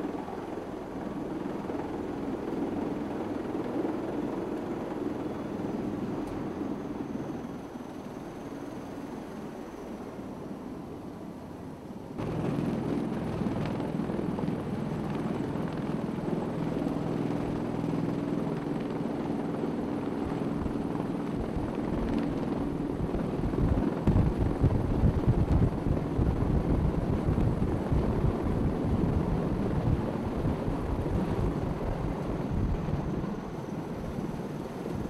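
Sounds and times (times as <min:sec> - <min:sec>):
tilt-rotor aircraft engines droning: 0:00.0 - 0:35.0.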